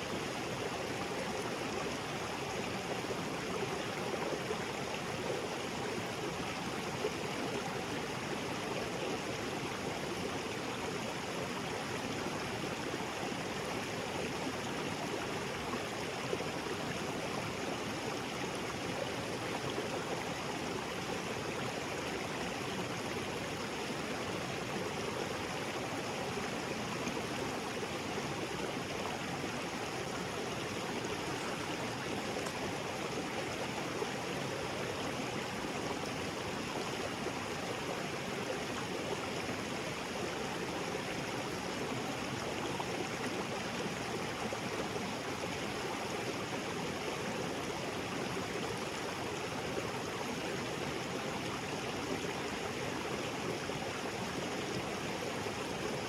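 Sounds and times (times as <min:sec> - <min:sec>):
small waterfall rushing: 0:00.0 - 0:56.0.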